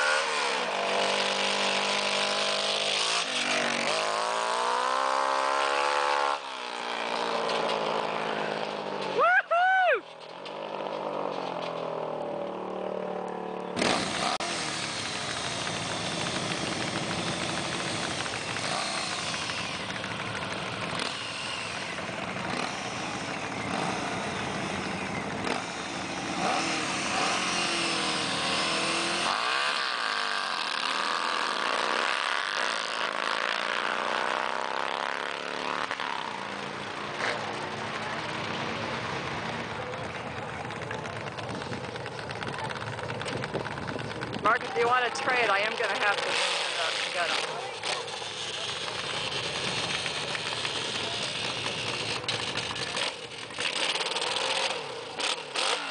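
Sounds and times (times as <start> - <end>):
lawn mower engine revving: 0.0 - 9.2, 10.4 - 55.9.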